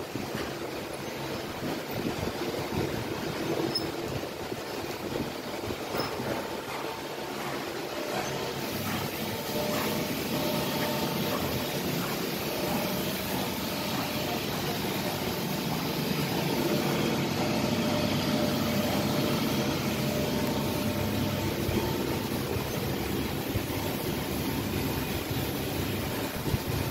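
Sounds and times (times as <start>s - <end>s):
mixer motor hum: 0.0s - 26.9s.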